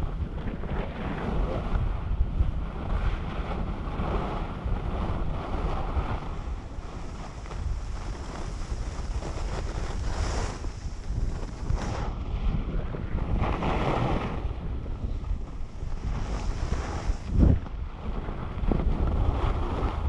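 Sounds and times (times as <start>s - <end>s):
wind buffeting microphone: 0.0s - 20.0s
skis sliding over snow: 0.1s - 20.0s.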